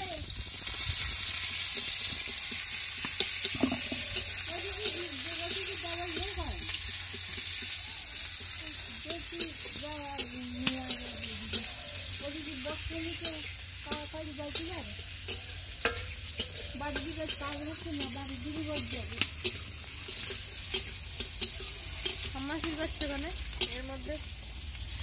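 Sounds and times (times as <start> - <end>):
onion sizzling in oil: 0.0 - 25.0
spatula scraping pan: 1.8 - 24.0.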